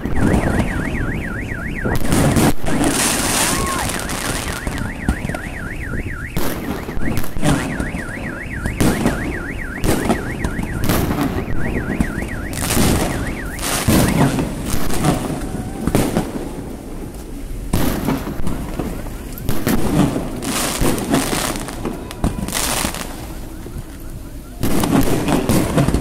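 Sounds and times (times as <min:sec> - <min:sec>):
car alarm siren warbling: 0:00.0 - 0:16.5, 0:18.1 - 0:26.0
fireworks banging: 0:00.0 - 0:26.0.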